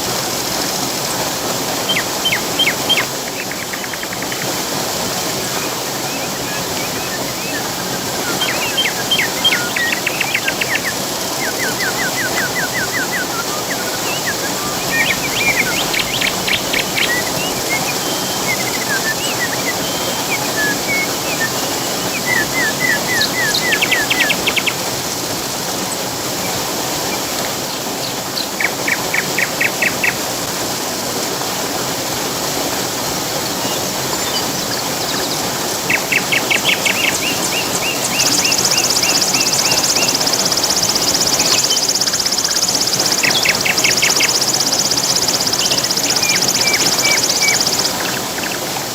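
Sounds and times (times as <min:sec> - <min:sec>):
birds chirping: 0:00.0 - 0:30.5, 0:32.5 - 0:48.9
rushing water of waterfall: 0:00.0 - 0:48.9.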